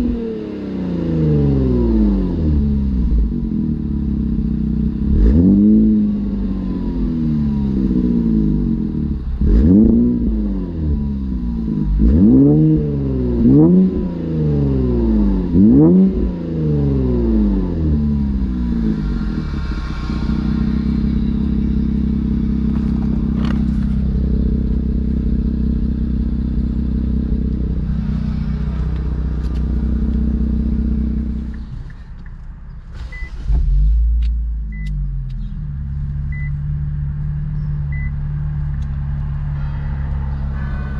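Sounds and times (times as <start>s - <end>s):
car engine revving and idling: 0.0s - 40.9s.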